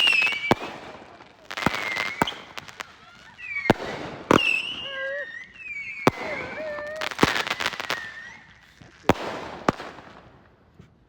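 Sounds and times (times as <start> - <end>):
firework whistling: 0.0 - 10.1
firework bangs: 0.0 - 11.0.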